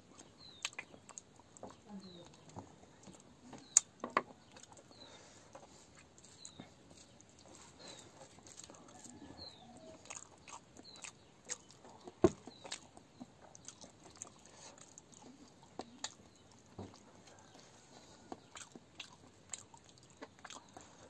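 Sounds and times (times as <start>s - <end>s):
bird chirping faintly: 0.0s - 21.0s
man chewing with wet smacks: 0.0s - 21.0s.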